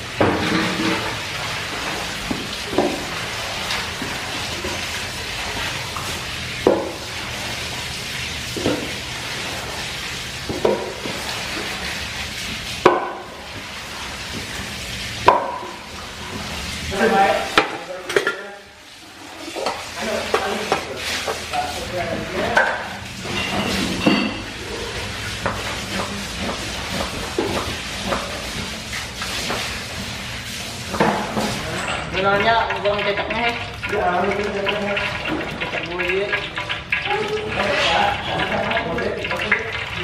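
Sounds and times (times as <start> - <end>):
hose water splashing: 0.0 - 40.0.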